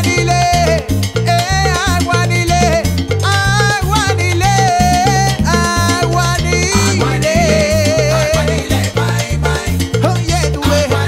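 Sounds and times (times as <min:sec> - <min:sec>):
salsa band playing: 0:00.0 - 0:11.0.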